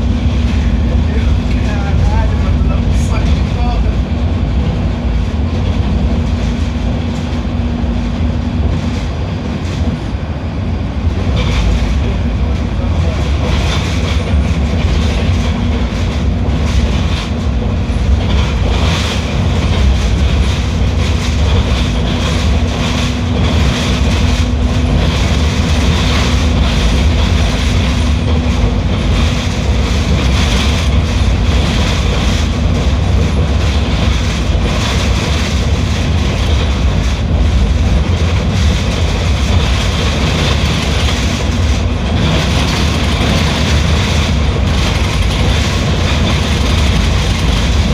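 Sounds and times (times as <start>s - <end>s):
bus engine rumble: 0.0s - 47.9s
road and body rattle: 0.0s - 47.9s.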